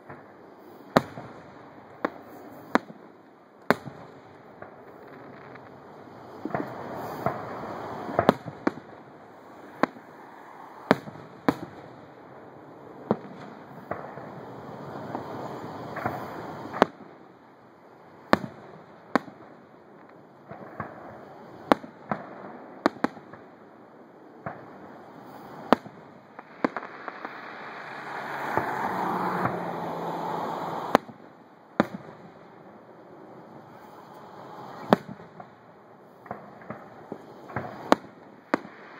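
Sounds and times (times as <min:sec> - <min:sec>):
fireworks bursting: 0:00.0 - 0:38.9
steady background noise: 0:00.0 - 0:38.9.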